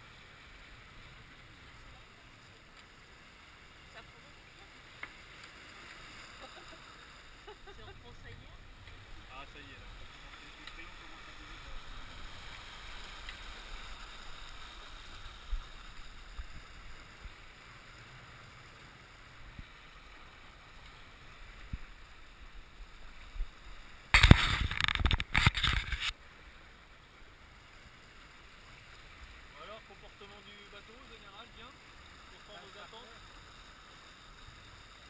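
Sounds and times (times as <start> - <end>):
water rushing along hull: 0.0 - 35.0
wind: 0.0 - 35.0.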